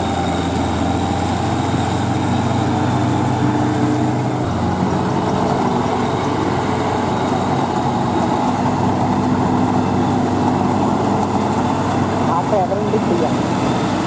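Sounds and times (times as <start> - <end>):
heavy farm machine engine: 0.0 - 14.0.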